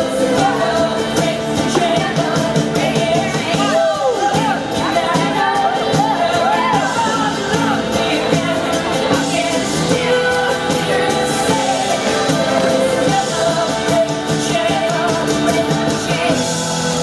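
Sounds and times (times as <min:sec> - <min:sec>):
pop song with singer: 0:00.0 - 0:17.0.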